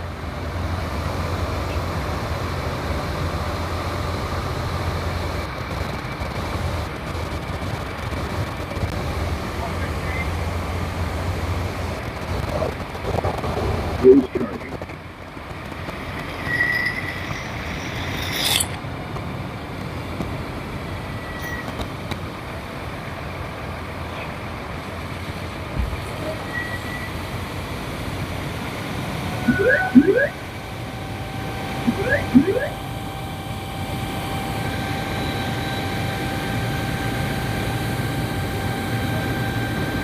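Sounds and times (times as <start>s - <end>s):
diesel engine low drone: 0.0s - 40.0s.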